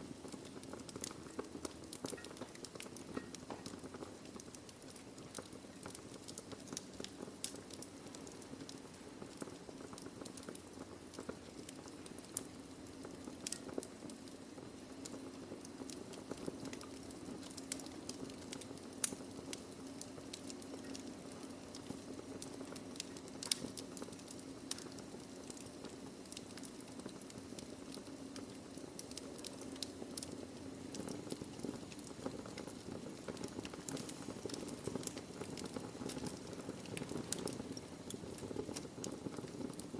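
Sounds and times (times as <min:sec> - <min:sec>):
fire hissing: 0:00.0 - 0:39.9
logs crackling and popping: 0:00.0 - 0:39.9.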